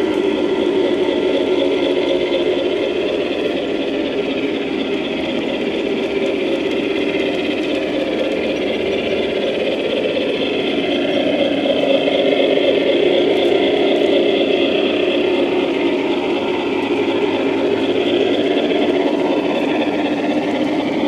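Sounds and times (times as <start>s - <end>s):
model train engine hum: 0.0s - 21.0s.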